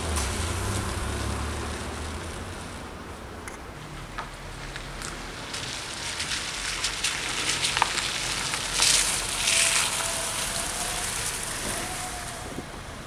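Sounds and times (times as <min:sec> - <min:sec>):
car tyres hissing on wet slush: 0:00.0 - 0:03.3, 0:03.9 - 0:13.0.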